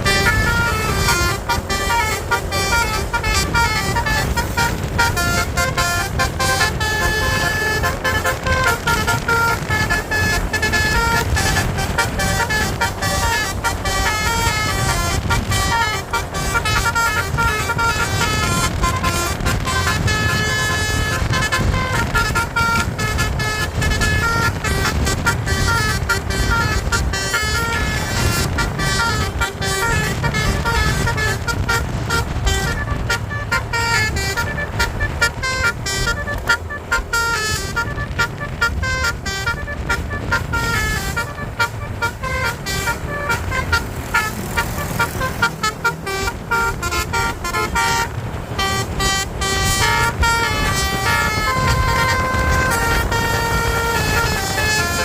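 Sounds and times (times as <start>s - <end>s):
musical air horn playing a tune: 0.0s - 55.0s
vehicle engine running: 0.0s - 55.0s.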